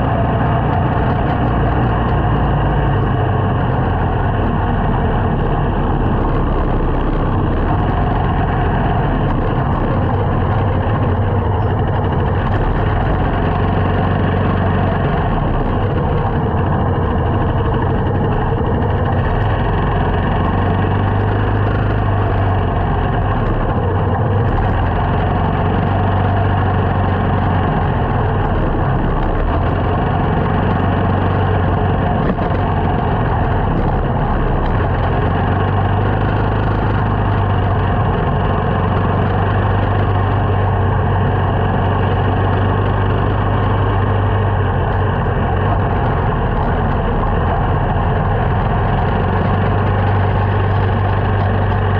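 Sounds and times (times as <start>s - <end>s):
small motorcycle engine running: 0.0s - 51.9s
wind and road noise: 0.0s - 51.9s.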